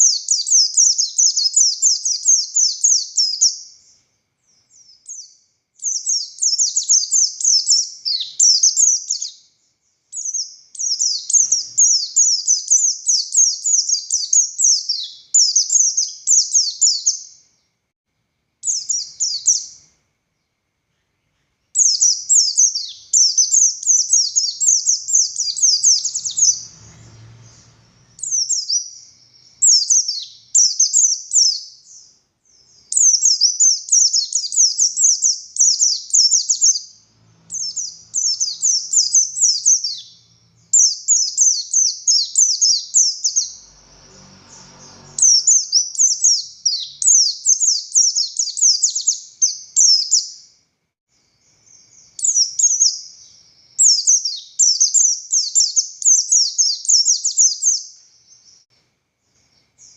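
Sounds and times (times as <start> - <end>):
bird twittering song: 0.0 - 17.7, 18.6 - 59.9.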